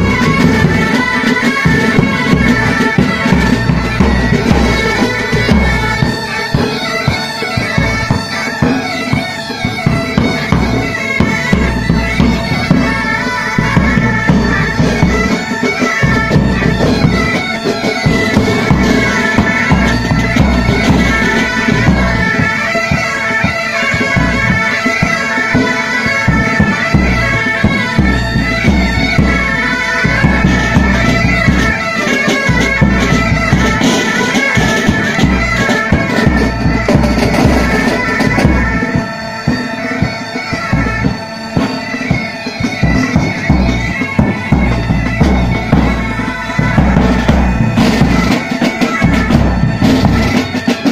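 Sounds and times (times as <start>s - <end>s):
bagpipes playing melody: 0.0s - 50.9s
bass and tenor drums beating: 0.0s - 50.9s.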